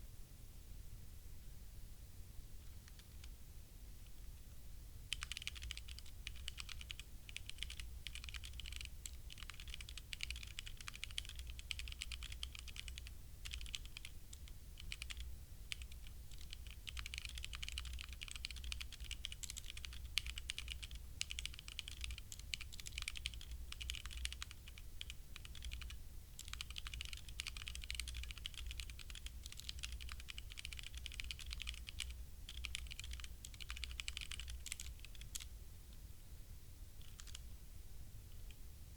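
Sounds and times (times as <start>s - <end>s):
steady low hum: 0.0s - 38.9s
mechanical keyboard typing: 2.7s - 3.3s, 5.1s - 35.5s, 37.0s - 37.4s.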